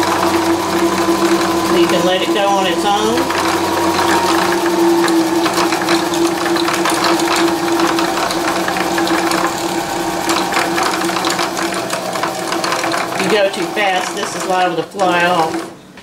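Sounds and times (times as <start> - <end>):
sewing machine motor winding bobbin: 0.0 - 15.7.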